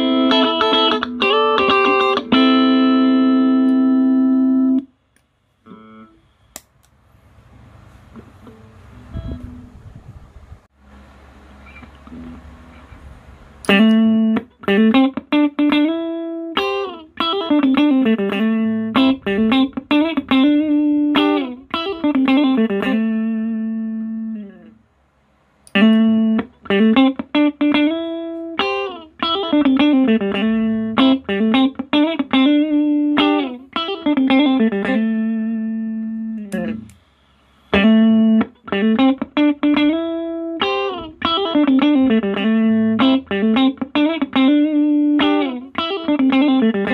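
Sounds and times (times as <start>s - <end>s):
electric guitar melody: 0.0s - 4.9s, 5.6s - 6.2s, 8.2s - 10.0s, 11.4s - 24.8s, 25.7s - 37.0s, 37.7s - 46.9s.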